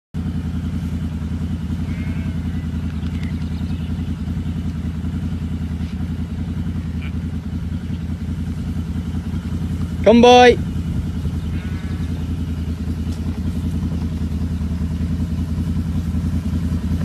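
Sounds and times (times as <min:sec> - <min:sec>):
engine running steadily: 0:00.2 - 0:17.0.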